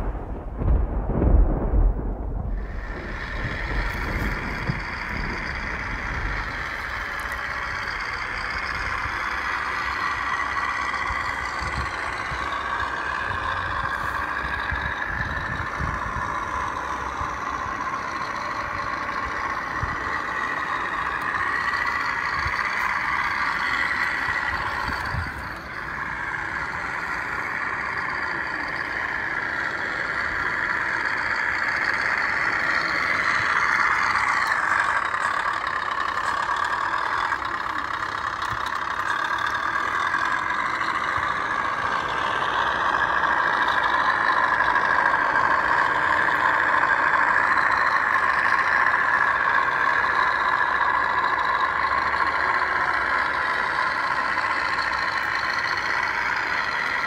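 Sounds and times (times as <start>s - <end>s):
toy truck motor whine: 2.7s - 57.0s.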